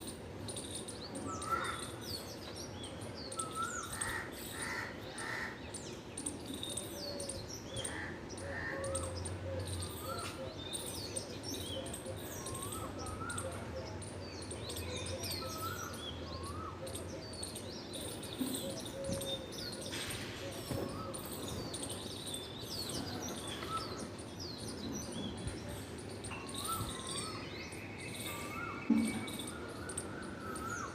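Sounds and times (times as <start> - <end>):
birds chirping and whistling: 0.4 - 7.5, 8.8 - 30.9.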